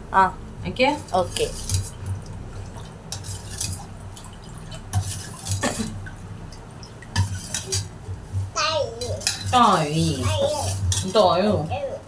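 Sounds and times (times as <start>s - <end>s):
ladle stirring liquid in pot: 1.0s - 11.5s.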